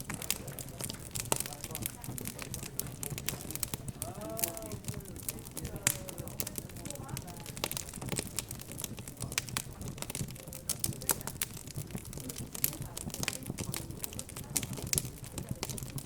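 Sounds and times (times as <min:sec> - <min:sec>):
background chatter: 0:00.0 - 0:16.0
wood fire crackling: 0:00.0 - 0:16.0.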